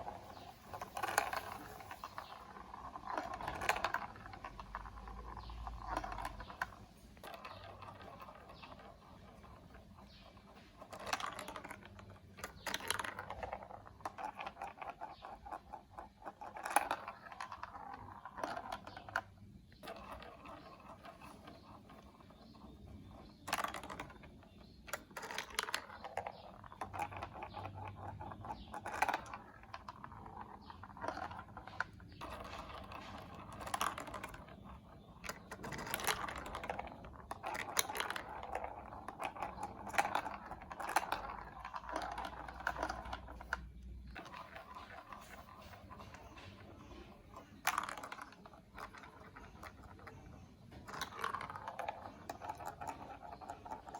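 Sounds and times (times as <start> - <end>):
plastic building pieces clicking: 0.0 - 53.9.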